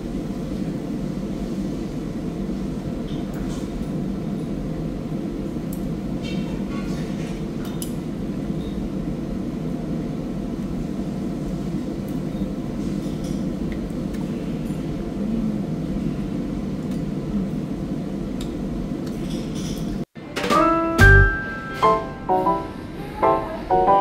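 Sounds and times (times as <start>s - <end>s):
restaurant background rumble: 0.0s - 24.0s.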